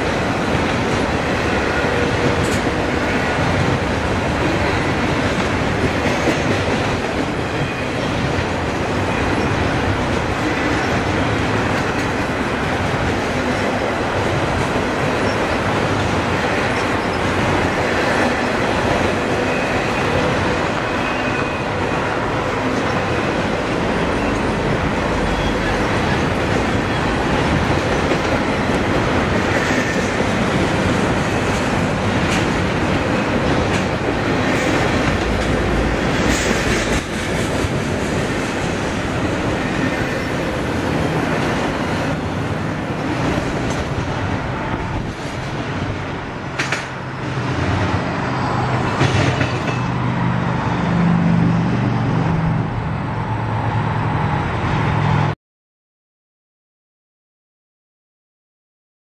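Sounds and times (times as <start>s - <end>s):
freight train rumbling past: 0.0s - 55.4s.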